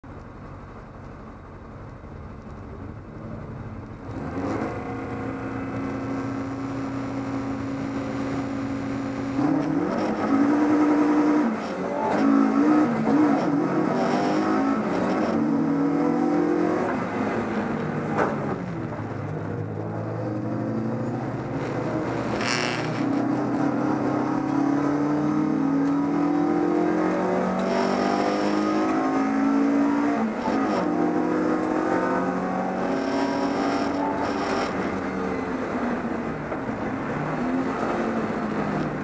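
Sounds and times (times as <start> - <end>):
race car engine revving: 4.0 - 39.0.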